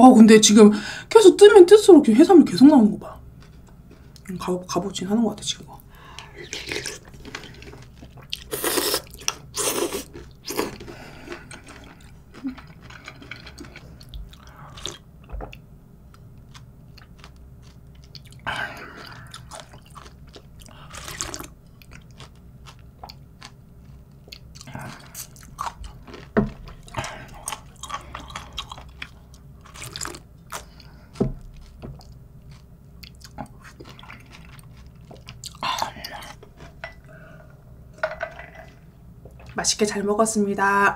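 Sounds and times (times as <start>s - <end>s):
chewing and crunching food: 3.1s - 4.8s, 5.8s - 37.6s.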